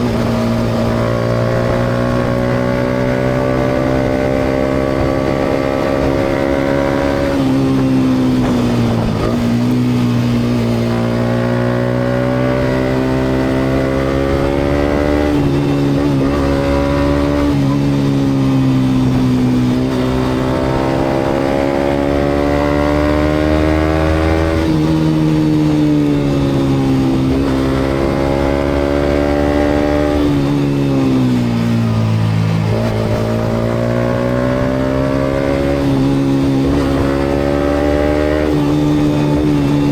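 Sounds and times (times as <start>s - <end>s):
motorcycle engine revving: 0.0s - 39.9s
road noise: 0.0s - 39.9s.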